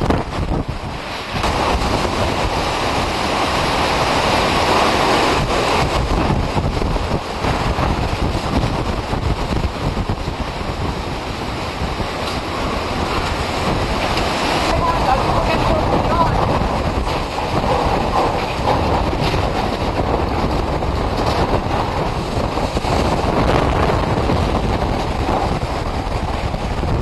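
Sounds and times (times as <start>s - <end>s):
hurricane wind gusting: 0.0s - 27.0s
wind buffeting microphone: 0.0s - 27.0s
wind-driven rain: 0.0s - 27.0s.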